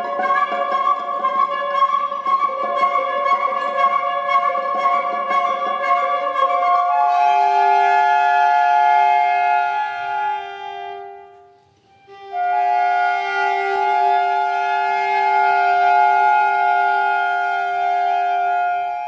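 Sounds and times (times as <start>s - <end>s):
flute tones: 0.0s - 19.0s.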